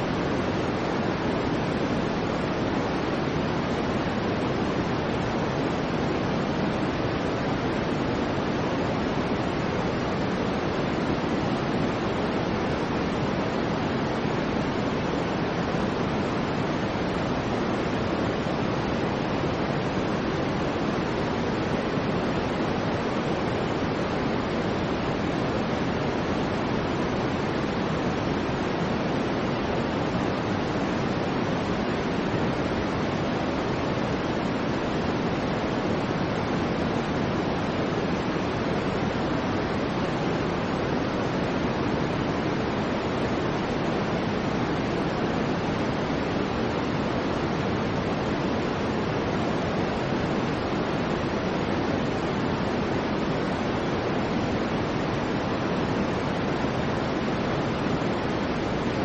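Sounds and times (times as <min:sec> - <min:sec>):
low rushing white noise: 0:00.0 - 0:59.0.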